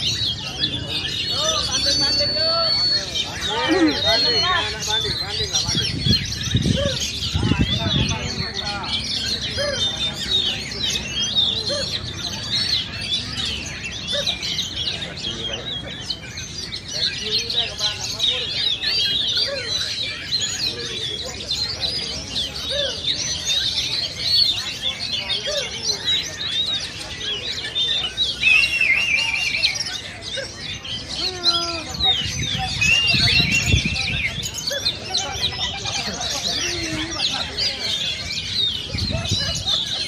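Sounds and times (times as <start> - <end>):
many songbirds singing: 0.0 - 40.0.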